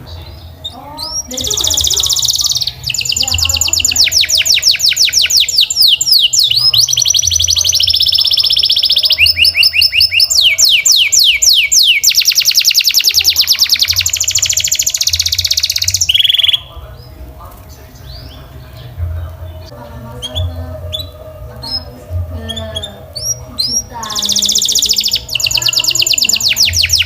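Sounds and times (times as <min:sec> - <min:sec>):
canary singing fast trills: 0:00.0 - 0:27.0.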